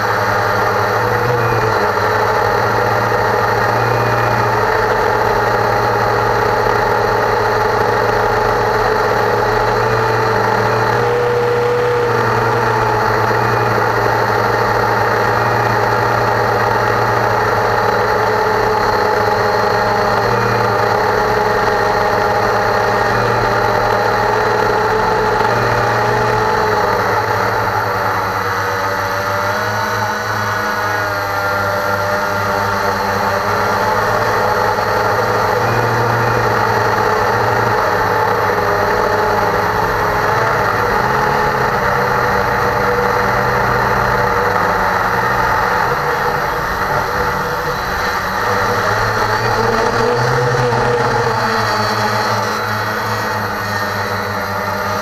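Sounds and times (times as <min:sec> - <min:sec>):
drone motors droning whine: 0:00.0 - 0:55.0.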